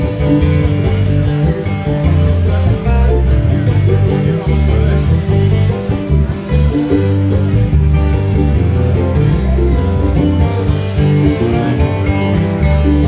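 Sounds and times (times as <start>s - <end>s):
acoustic guitar: 0.0s - 13.0s
electric bass guitar line: 0.0s - 13.0s
fiddle: 0.0s - 13.0s
mandolin: 0.0s - 13.0s.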